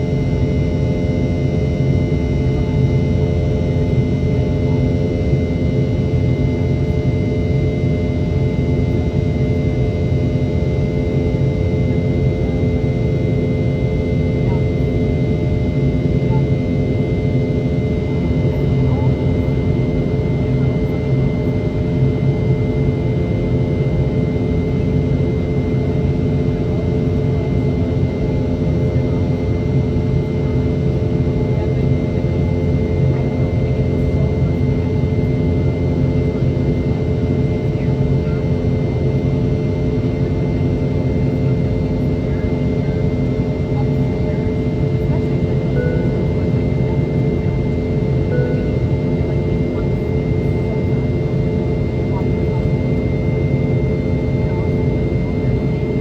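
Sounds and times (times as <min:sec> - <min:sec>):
high engine whine: 0:00.0 - 0:56.0
jet engines droning in cabin: 0:00.0 - 0:56.0.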